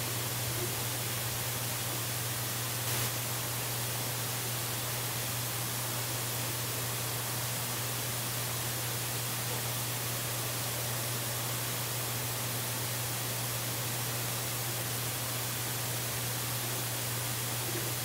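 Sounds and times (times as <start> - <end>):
low electrical hum: 0.0 - 18.0
steady hiss: 0.0 - 18.0.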